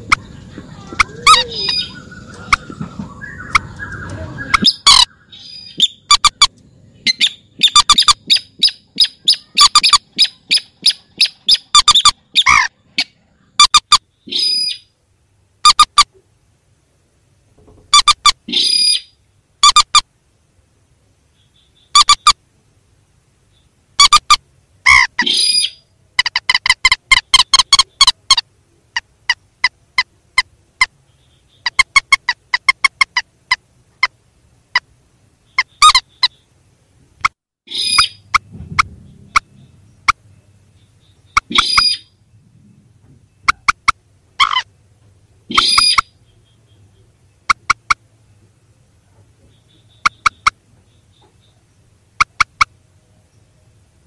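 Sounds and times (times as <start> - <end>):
recorded bird calls: 0.0 - 16.4, 17.5 - 20.1, 21.1 - 22.7, 23.4 - 54.0.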